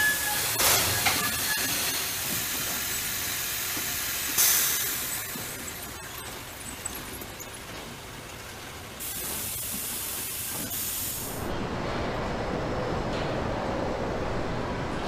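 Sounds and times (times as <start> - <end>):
hissing industrial room noise: 0.0 - 15.0.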